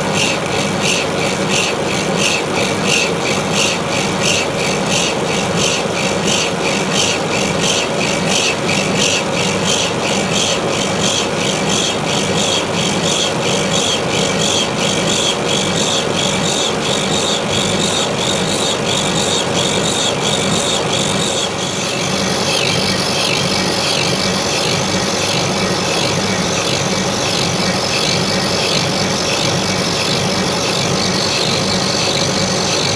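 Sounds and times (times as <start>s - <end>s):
lathe cutter scraping metal: 0.0s - 32.9s
machine whine: 0.0s - 32.9s.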